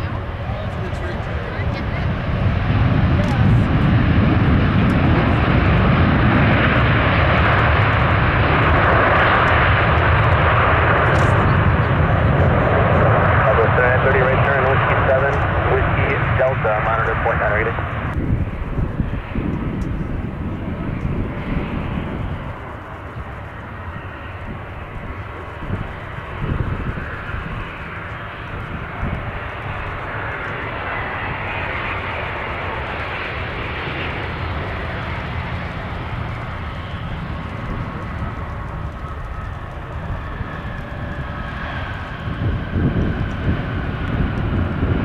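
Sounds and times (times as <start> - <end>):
jet airliner rush: 0.0 - 45.0.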